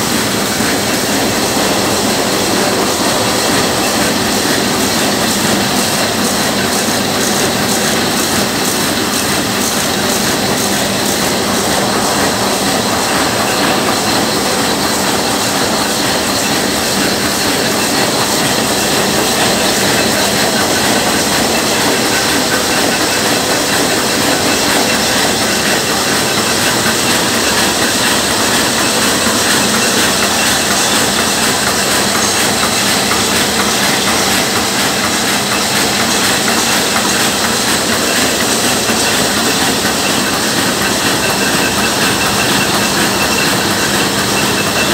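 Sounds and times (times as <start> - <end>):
printing press mechanical clatter: 0.0 - 44.9.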